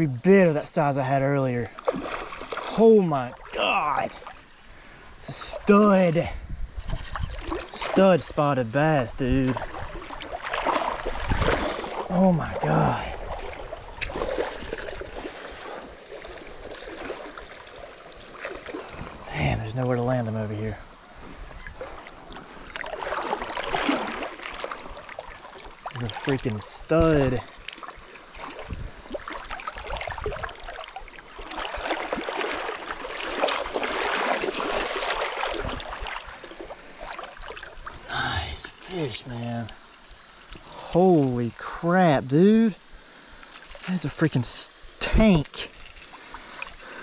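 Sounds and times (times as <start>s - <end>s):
river water splashing and gurgling: 0.0s - 47.0s.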